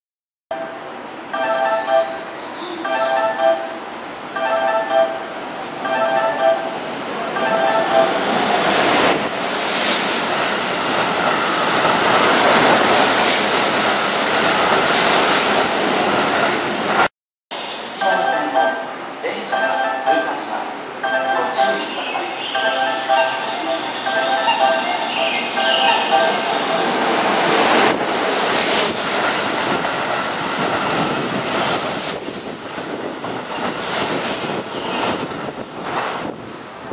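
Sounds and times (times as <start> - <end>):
train running past: 0.5 - 36.9.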